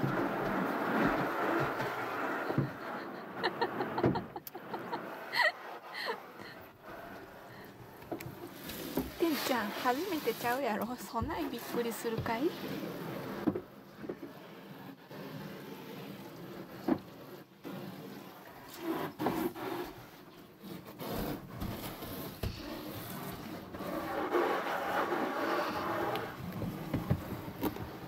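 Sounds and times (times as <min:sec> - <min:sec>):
water and rubbing of car washing: 0:00.0 - 0:28.0.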